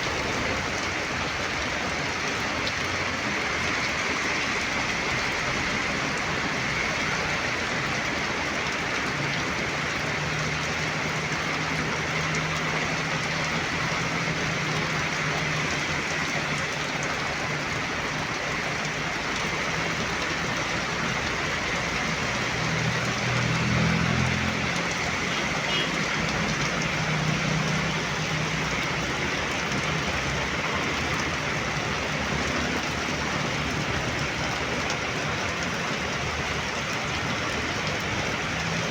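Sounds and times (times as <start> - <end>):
heavy rain falling: 0.0 - 38.9
passing vehicle engines: 0.0 - 38.9.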